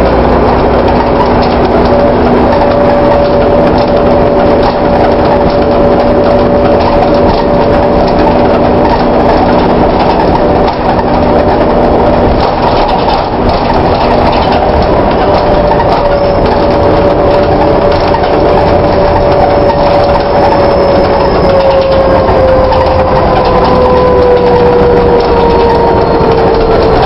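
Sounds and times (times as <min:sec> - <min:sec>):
body rattles and clinks: 0:00.0 - 0:27.0
bus driveline whine: 0:00.0 - 0:27.0
bus engine and road noise: 0:00.0 - 0:27.0.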